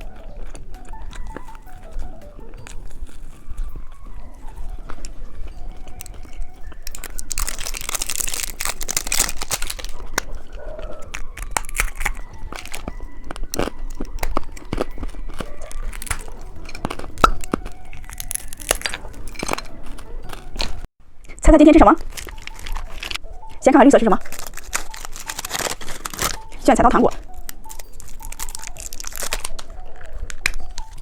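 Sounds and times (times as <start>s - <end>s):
hard candy crunching: 0.0s - 20.9s, 21.7s - 31.0s
crinkling: 0.0s - 31.0s.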